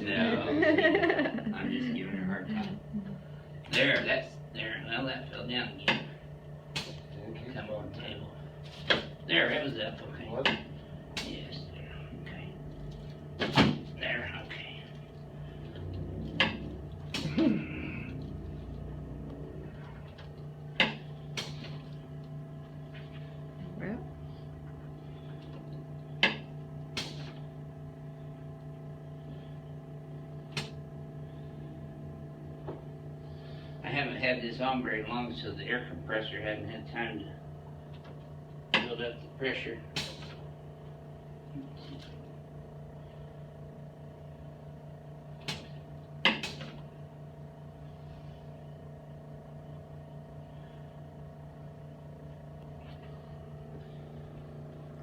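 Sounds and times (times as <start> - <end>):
air compressor humming: 0.0 - 55.0.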